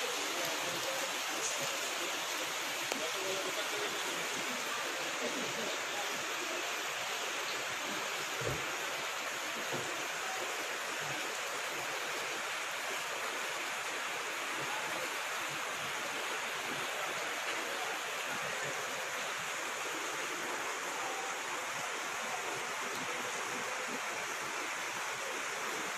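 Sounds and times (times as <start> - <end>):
floodwater rushing: 0.0 - 25.9.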